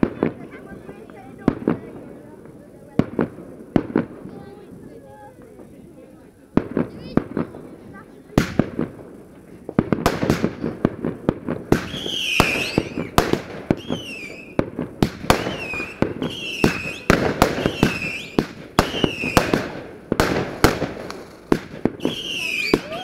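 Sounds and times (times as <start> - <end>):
firework bangs and cracks: 0.0 - 23.0
whistling fireworks: 0.0 - 23.0.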